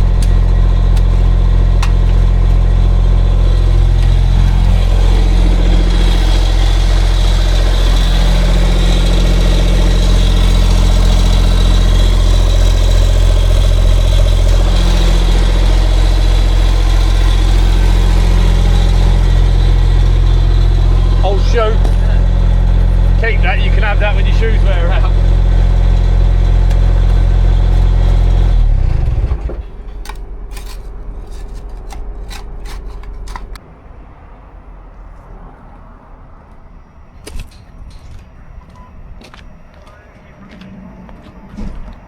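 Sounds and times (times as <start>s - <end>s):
mini digger diesel engine: 0.0s - 42.0s.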